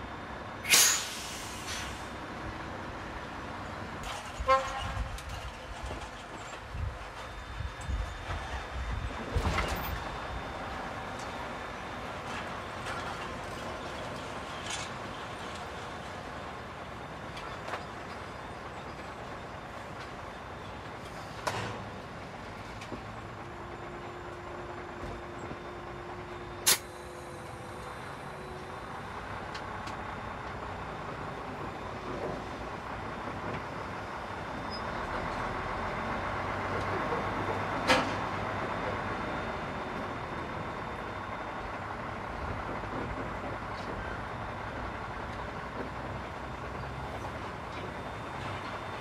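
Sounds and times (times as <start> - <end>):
truck diesel engine droning: 0.0 - 49.0.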